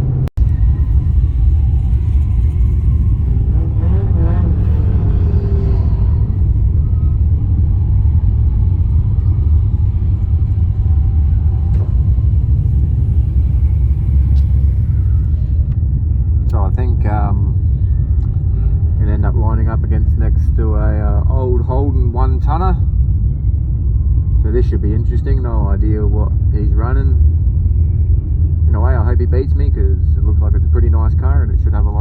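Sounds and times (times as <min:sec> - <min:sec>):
car engine rumbling at low revs: 0:00.0 - 0:32.0.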